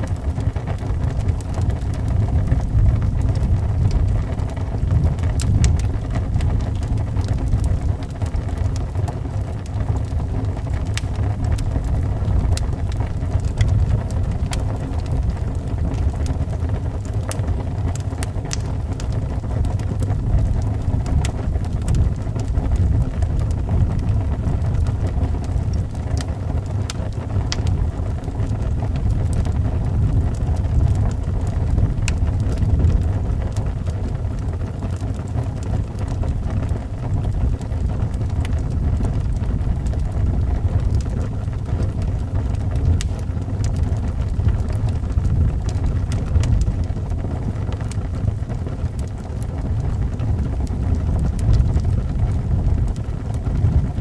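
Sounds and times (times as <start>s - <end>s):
low wind rumble: 0.0s - 54.0s
wood fire crackling: 0.0s - 54.0s.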